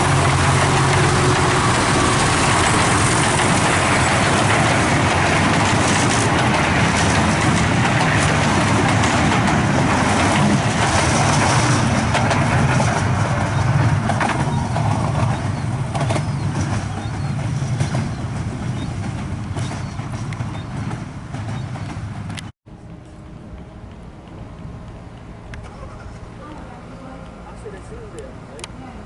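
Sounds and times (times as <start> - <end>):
miniature train rumbling on track: 0.0 - 29.0.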